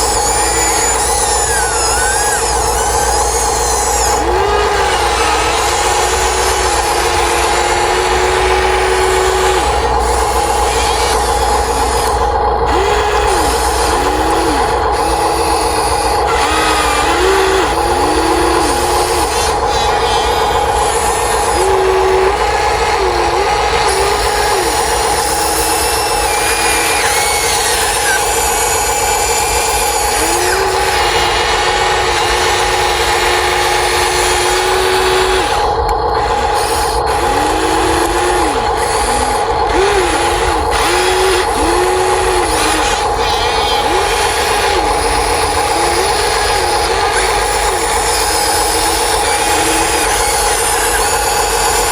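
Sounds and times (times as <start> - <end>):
small electric motors whining: 0.0 - 51.9
steady hum: 0.0 - 51.9.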